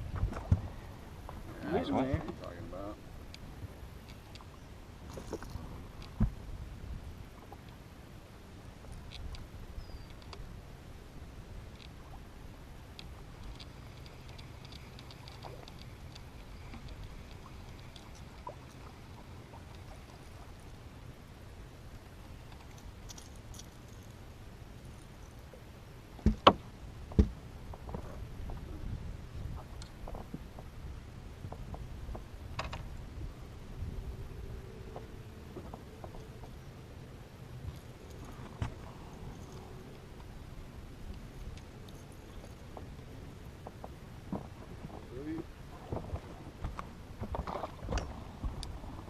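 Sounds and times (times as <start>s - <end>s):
boat low rumble: 0.0s - 49.0s.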